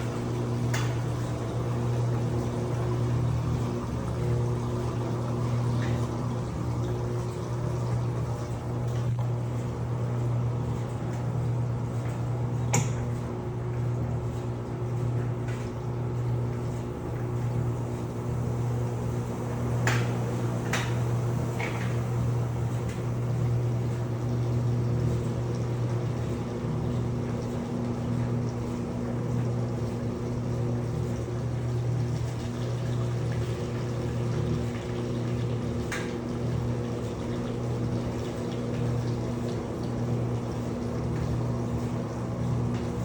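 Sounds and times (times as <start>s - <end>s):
washing machine running: 0.0s - 43.0s.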